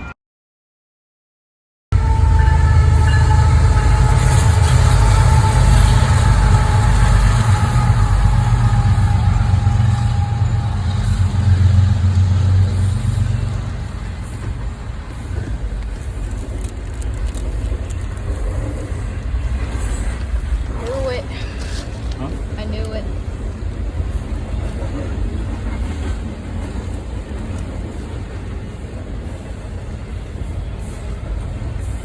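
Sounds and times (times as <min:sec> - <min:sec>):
train rumbling past: 0:02.0 - 0:32.0
train whine: 0:02.0 - 0:32.0.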